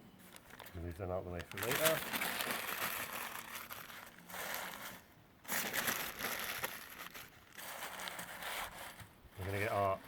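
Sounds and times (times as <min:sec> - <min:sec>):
newspaper crumpling: 0:00.2 - 0:09.7.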